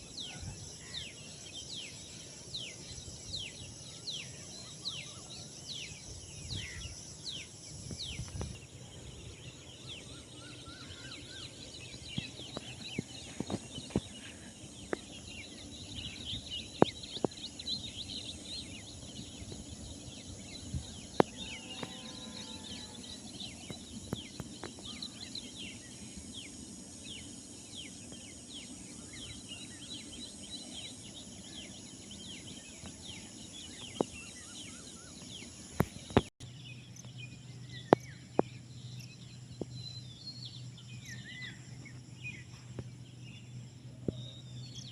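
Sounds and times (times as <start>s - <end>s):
low full bird call: 0.0s - 44.9s
small birds chirping: 0.0s - 44.9s.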